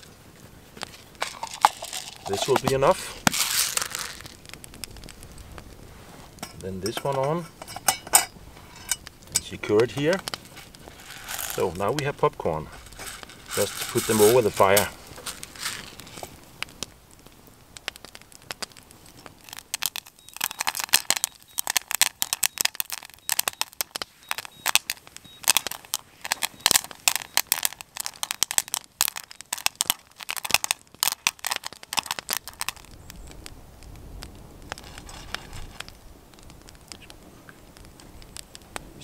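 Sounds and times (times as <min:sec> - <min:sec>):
popcorn popping in a pan: 0:00.8 - 0:05.7, 0:06.4 - 0:39.0.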